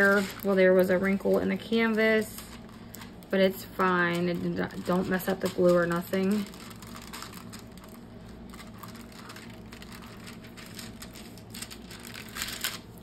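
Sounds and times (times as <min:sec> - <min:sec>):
plastic cover rustling and crinkling: 0:00.0 - 0:13.0
steady low hum: 0:00.0 - 0:13.0.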